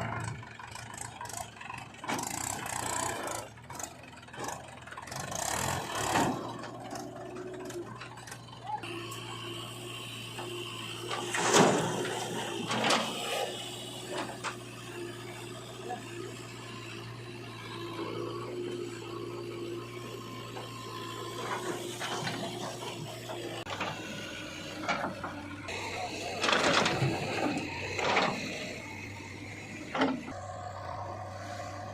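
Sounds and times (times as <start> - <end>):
motor humming: 5.8 - 31.9.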